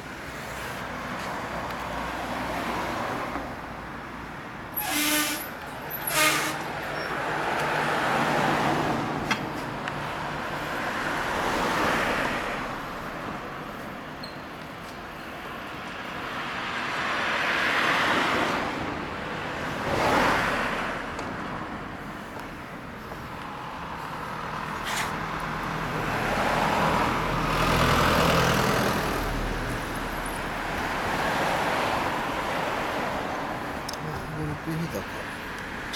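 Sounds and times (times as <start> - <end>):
cars passing: 0.0 - 35.9.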